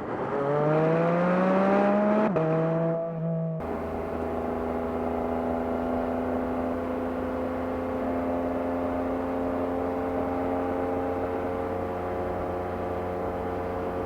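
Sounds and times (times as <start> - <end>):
car engine and exhaust pulling: 0.0 - 14.0.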